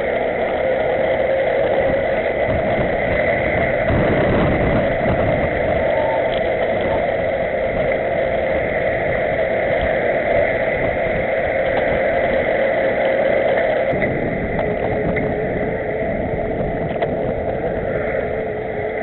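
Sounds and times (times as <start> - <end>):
bicycle tyres rolling on asphalt: 0.0 - 19.0
wind on microphone: 0.0 - 19.0.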